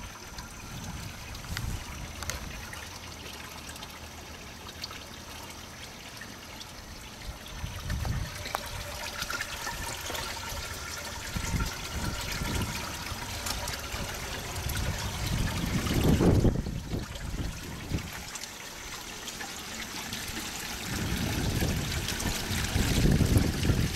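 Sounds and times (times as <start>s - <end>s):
water trickling into a tank: 0.0s - 23.9s.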